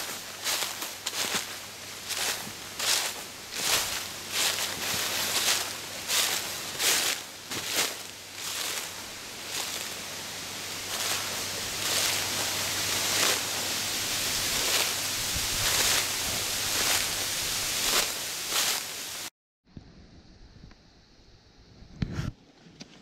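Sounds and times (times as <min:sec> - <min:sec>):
dry leaves rustling: 0:00.0 - 0:19.3.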